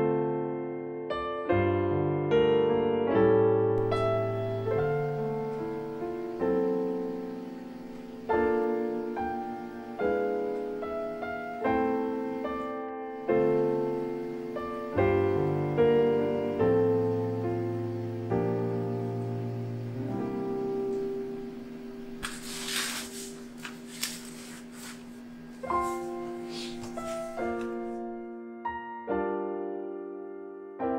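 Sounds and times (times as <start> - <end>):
slow solo piano music: 0.0 - 23.7, 25.5 - 30.9.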